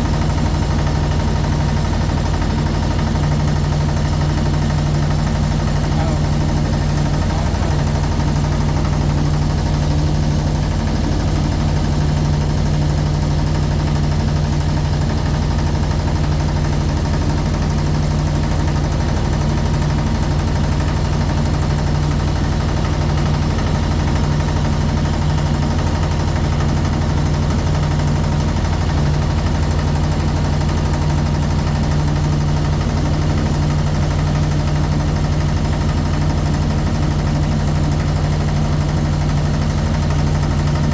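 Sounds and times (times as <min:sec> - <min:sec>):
motorboat engine droning: 0:00.0 - 0:40.9.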